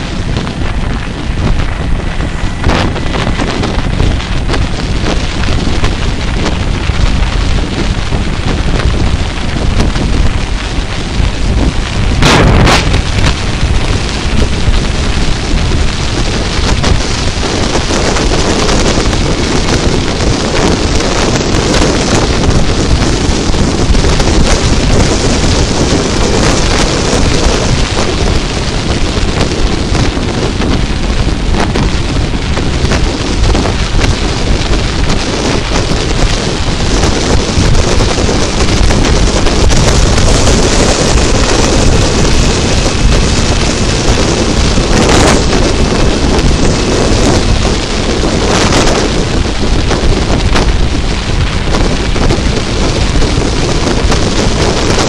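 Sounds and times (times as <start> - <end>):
motorcycle running: 0.0 - 55.0
road noise: 0.0 - 55.0
wind buffeting microphone: 0.0 - 55.0.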